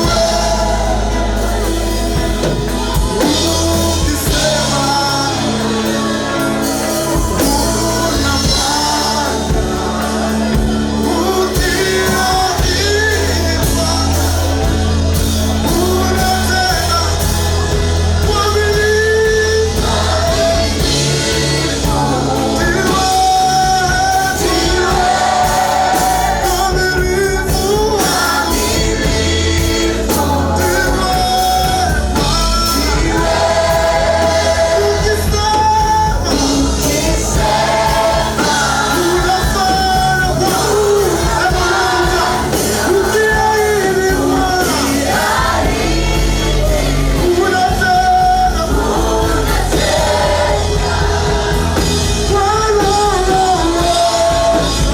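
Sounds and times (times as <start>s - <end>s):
bass line: 0.0s - 54.9s
drums: 0.0s - 54.9s
group singing gospel song: 0.0s - 54.9s
live band playing: 0.0s - 54.9s.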